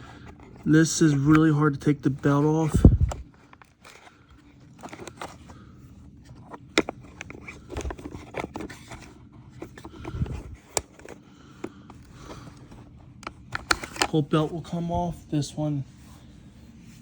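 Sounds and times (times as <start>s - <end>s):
plastic parts scraping and clicking: 0.0s - 14.6s.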